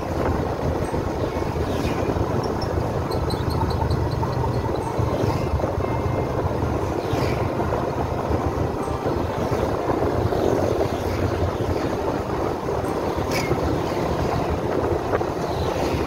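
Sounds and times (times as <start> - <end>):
motorcycle engine running: 0.0 - 16.0
wind on microphone: 0.0 - 16.0.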